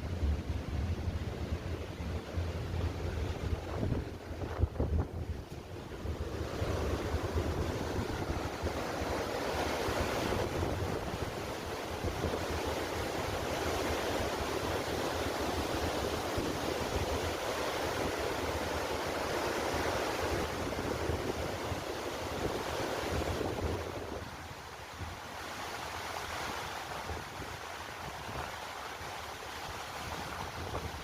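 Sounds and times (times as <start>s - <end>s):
rushing water: 0.0s - 31.0s
wind rumbling on microphone: 0.0s - 31.0s.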